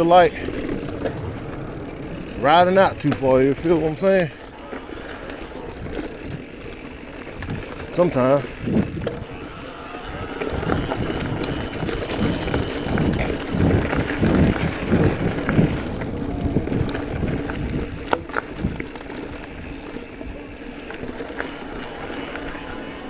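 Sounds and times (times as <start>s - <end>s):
wind buffeting microphone: 0.0s - 4.4s, 5.0s - 21.1s
bike tyre rumble on dirt trail: 0.0s - 23.0s.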